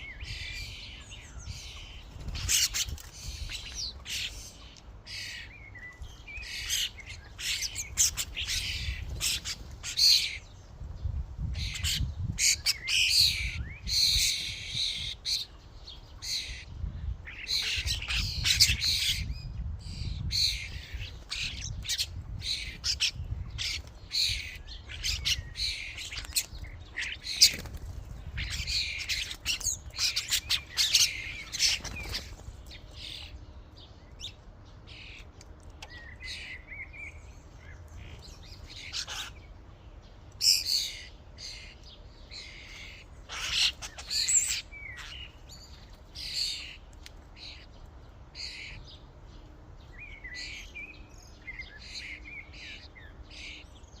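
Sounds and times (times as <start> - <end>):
starlings calling and chattering: 0.0 - 54.0.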